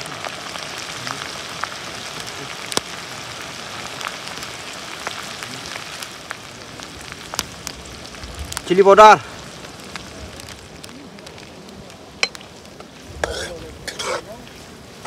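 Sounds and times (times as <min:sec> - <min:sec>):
crackling pops: 0:00.0 - 0:15.0
hot oil sizzling in a wok: 0:00.0 - 0:15.0.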